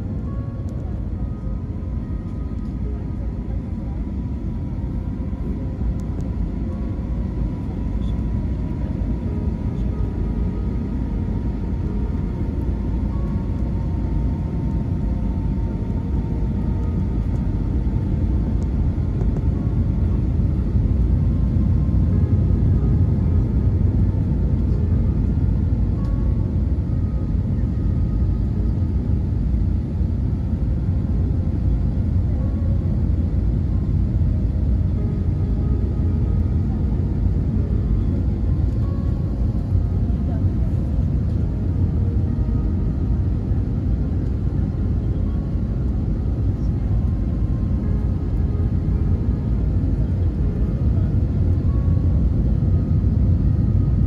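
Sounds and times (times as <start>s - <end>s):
faint steady hum: 0.0s - 54.0s
jet engine rumble in cabin: 0.0s - 54.0s.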